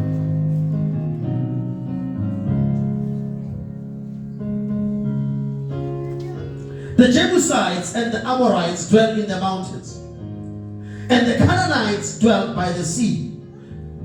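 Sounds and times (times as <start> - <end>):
keyboard playing slow chords: 0.0 - 14.0.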